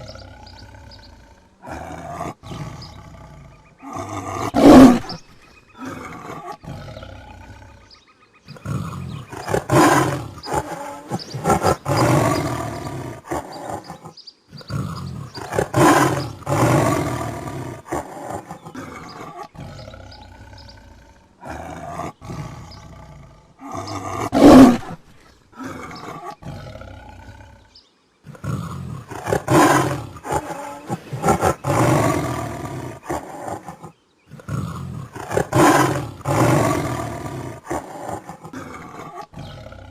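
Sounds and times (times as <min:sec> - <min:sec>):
tiger roaring: 0:00.0 - 0:39.9.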